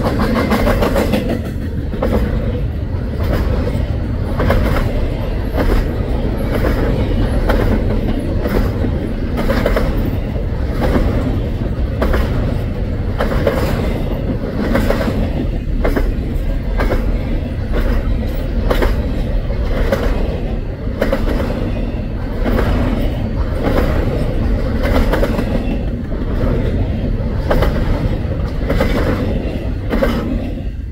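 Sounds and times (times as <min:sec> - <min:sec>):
wheel clacks on track: 0:00.0 - 0:30.8
freight cars rumbling: 0:00.0 - 0:30.9.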